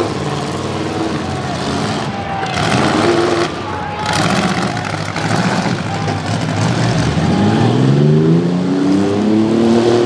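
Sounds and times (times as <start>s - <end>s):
engine revving up: 0.0s - 10.0s
truck engines running hard: 0.0s - 10.0s.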